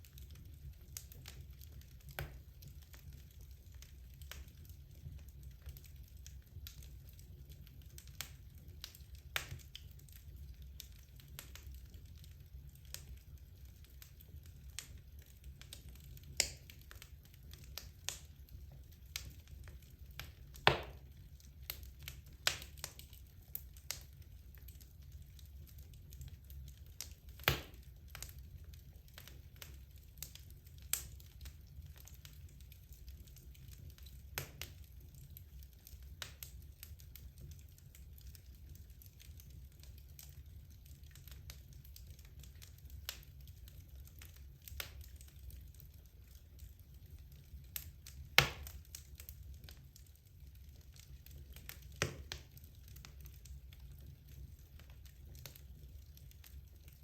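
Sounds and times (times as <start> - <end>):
burning logs crackling and popping: 0.0 - 57.0
low fire rumble: 0.0 - 57.0.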